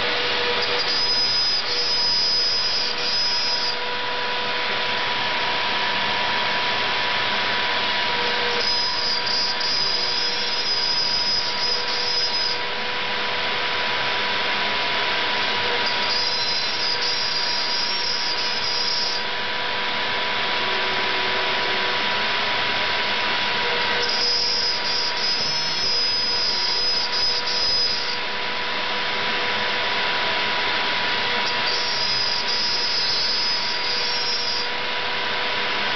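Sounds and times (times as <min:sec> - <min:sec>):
high-pitched whine: 0:00.0 - 0:35.9
router spindle milling plywood: 0:00.0 - 0:35.9.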